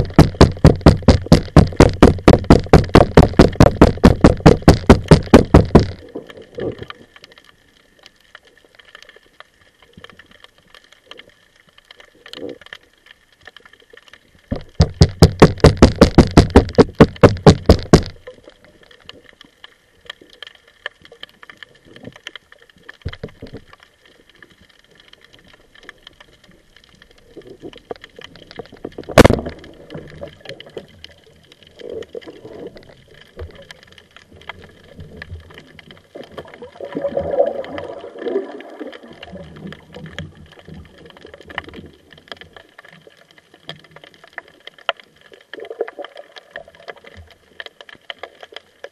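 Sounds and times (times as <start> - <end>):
fast run of clicks underwater: 0.0 - 48.9
underwater rustling and gurgling: 0.0 - 48.9.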